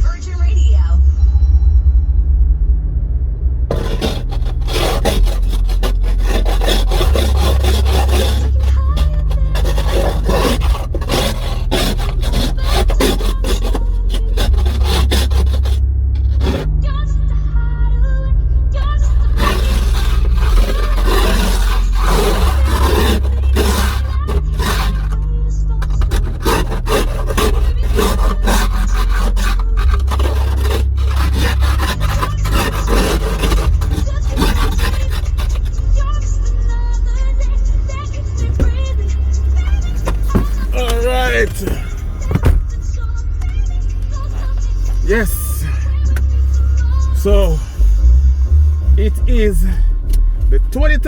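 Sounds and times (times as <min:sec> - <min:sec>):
steady low hum: 0:00.0 - 0:51.0
scraping ice off car window: 0:03.7 - 0:16.8, 0:18.8 - 0:51.0.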